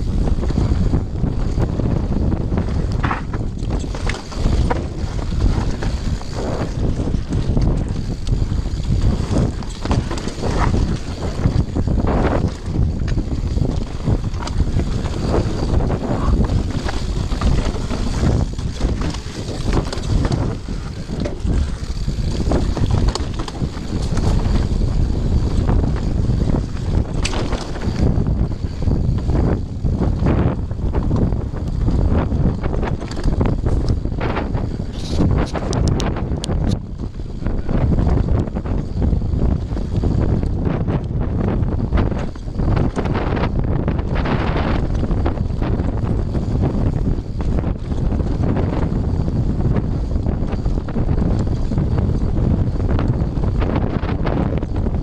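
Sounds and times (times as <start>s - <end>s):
bike clattering over bumps: 0.0s - 55.0s
bike tyre rumble: 0.0s - 55.0s
wind buffeting microphone: 0.0s - 55.0s.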